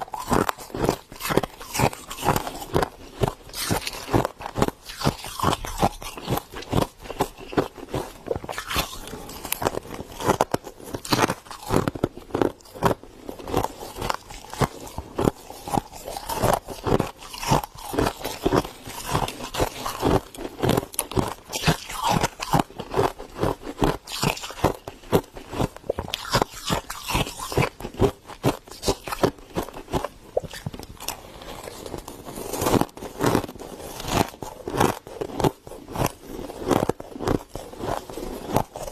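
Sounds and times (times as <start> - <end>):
frost crunching: 0.0 - 38.9.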